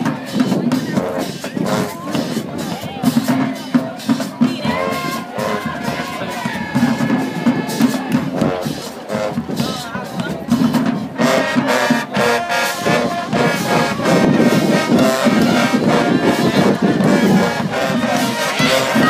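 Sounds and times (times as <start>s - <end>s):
marching band playing: 0.0s - 19.0s
brass section: 0.7s - 2.4s, 3.0s - 9.9s, 10.8s - 19.0s.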